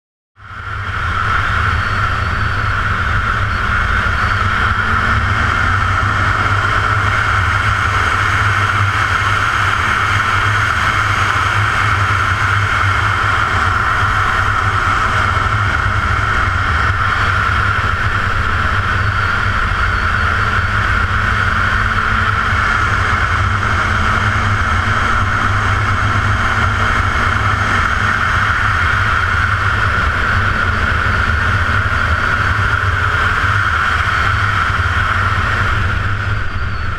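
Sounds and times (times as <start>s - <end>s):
motorcycle engine cruising: 0.4s - 36.9s
wind and road noise: 0.4s - 36.9s.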